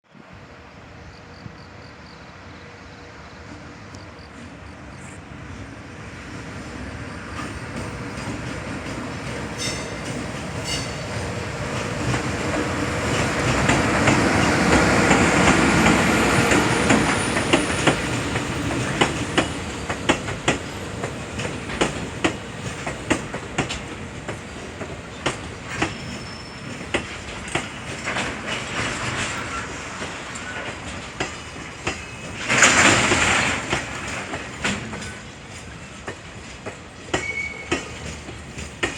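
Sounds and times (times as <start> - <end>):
freight train rumbling past: 0.1 - 38.9
wheels clicking over rail joints: 7.4 - 38.9.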